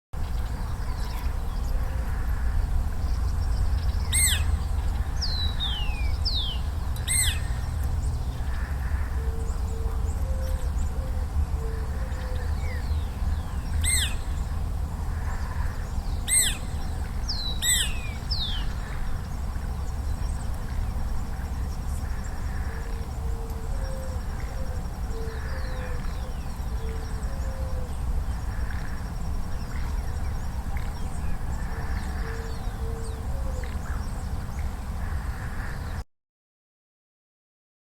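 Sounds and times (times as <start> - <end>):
steady low rumble: 0.2 - 36.0
birds calling: 0.3 - 36.0.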